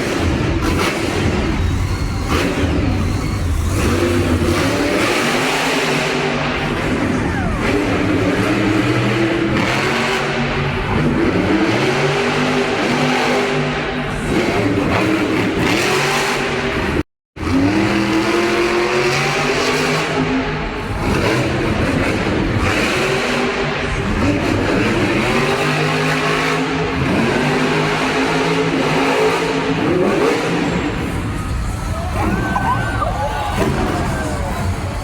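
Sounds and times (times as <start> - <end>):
truck engine revving hard: 0.0 - 35.0.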